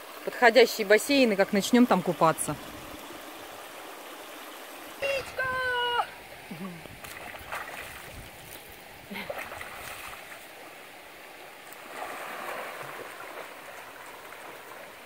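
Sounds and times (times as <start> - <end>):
creek water running and splashing: 0.0 - 15.0.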